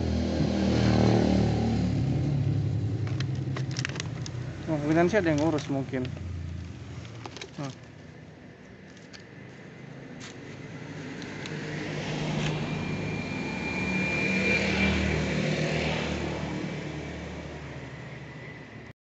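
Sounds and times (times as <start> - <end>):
motorbikes passing: 0.0 - 18.9.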